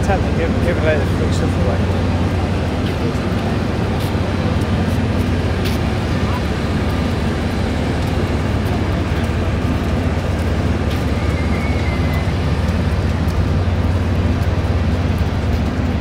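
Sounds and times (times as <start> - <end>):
machinery droning: 0.0 - 16.0.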